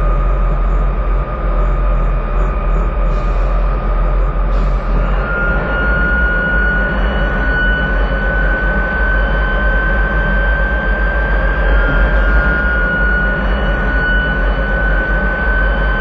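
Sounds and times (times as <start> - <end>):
aircraft engine roar: 0.0 - 16.0
high-pitched whine: 0.0 - 16.0.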